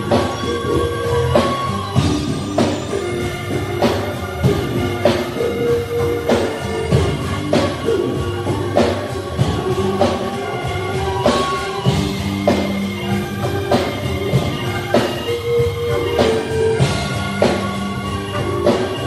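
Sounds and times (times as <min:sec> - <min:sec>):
drum kit steady beat: 0:00.0 - 0:19.0
held bass and instrument notes: 0:00.0 - 0:19.0.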